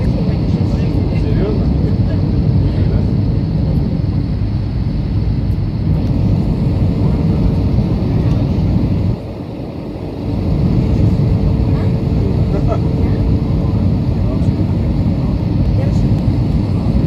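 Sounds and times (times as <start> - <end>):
airliner engine roar: 0.0 - 17.0.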